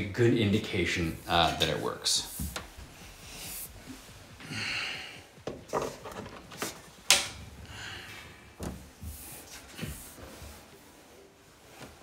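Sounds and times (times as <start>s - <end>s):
hands rustling cables: 1.2s - 12.0s.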